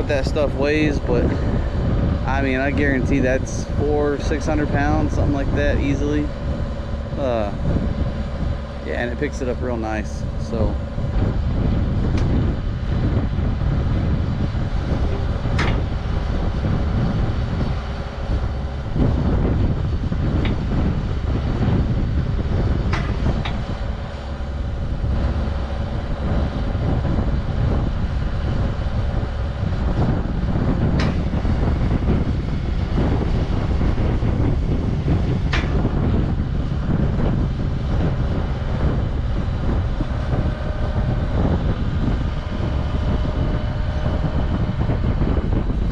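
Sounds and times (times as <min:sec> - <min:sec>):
machine engine running: 0:00.0 - 0:45.9.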